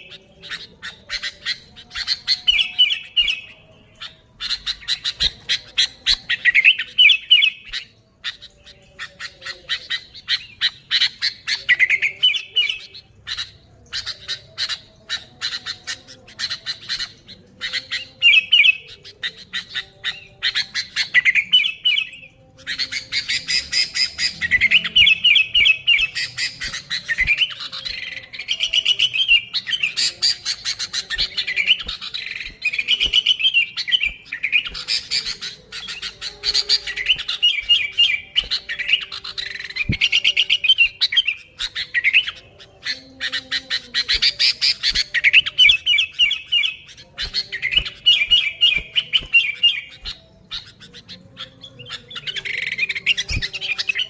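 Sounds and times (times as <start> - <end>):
bird chattering chirps: 0.0 - 54.0.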